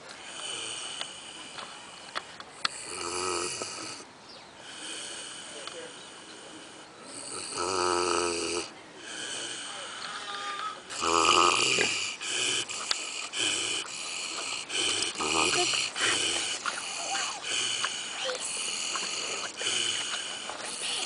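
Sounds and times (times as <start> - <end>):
pig snoring: 2.6 - 4.0, 4.7 - 10.1, 10.8 - 21.0.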